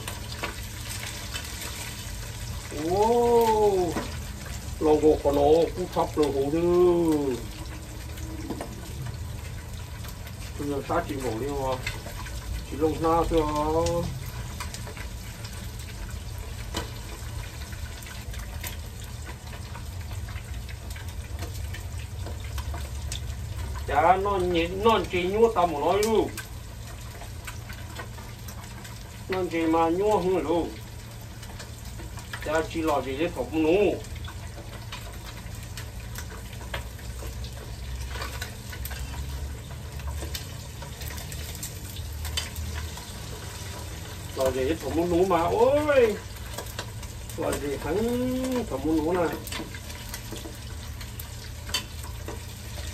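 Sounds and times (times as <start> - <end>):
fish sizzling in hot oil: 0.0 - 52.9.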